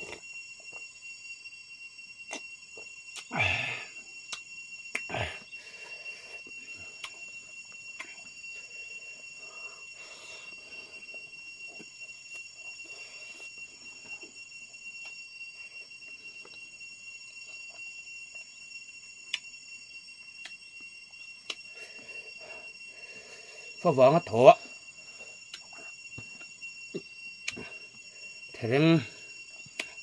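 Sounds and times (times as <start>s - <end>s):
steady high tone: 2.7s - 30.0s.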